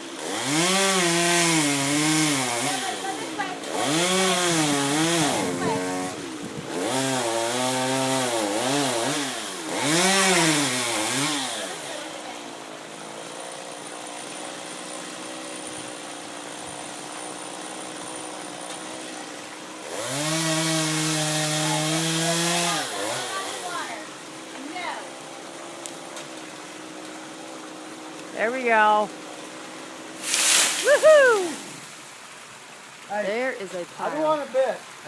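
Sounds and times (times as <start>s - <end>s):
chainsaw engine revving: 0.0s - 31.9s.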